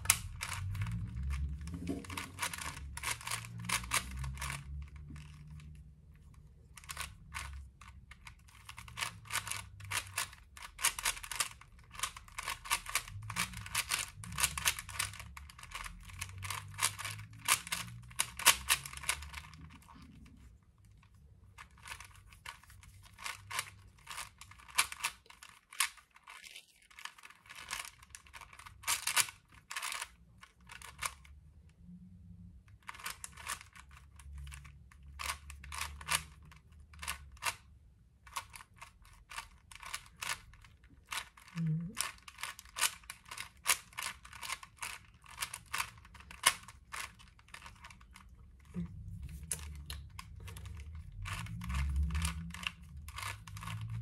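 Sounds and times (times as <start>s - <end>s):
puzzle cube plastic clicking: 0.0s - 31.7s, 32.7s - 54.0s.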